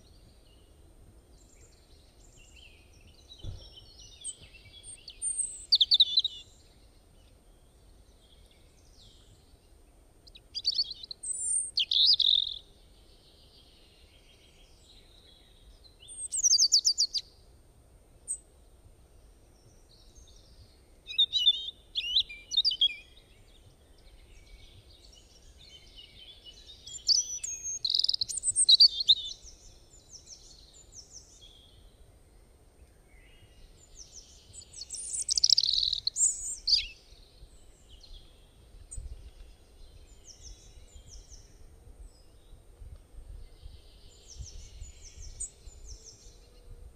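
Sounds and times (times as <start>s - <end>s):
small birds chirping: 0.0s - 17.4s, 18.2s - 46.8s.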